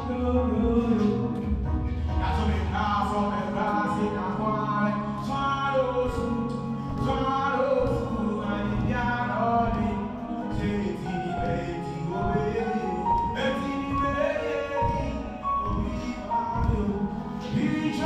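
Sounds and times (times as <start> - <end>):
backing track music: 0.0 - 18.0
man singing: 0.0 - 18.0.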